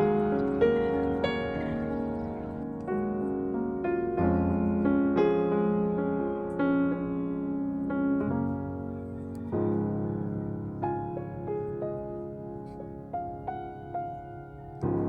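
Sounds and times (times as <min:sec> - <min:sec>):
slow gentle piano: 0:00.0 - 0:15.0.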